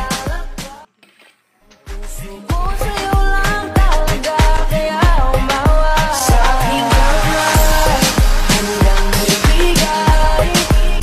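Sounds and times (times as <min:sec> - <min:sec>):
music with bass drum beat: 0:00.0 - 0:00.8, 0:01.8 - 0:11.0.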